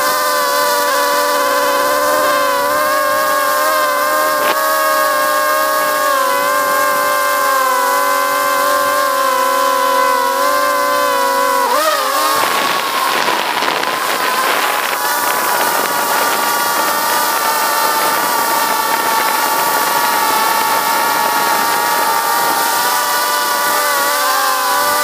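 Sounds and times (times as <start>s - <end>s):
drone motors and propellers whining: 0.0s - 25.0s.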